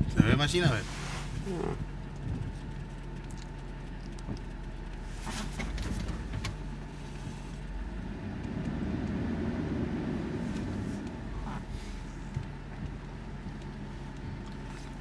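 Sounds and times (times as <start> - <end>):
engine hum and road noise: 0.0 - 15.0.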